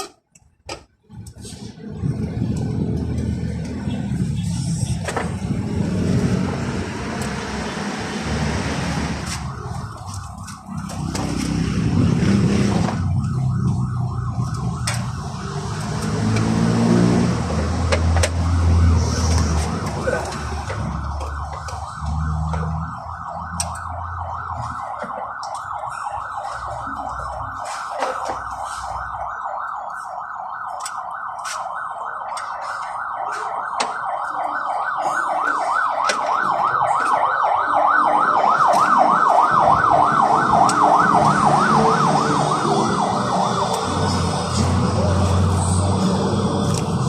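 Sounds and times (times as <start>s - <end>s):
siren warbling: 1.4s - 47.0s.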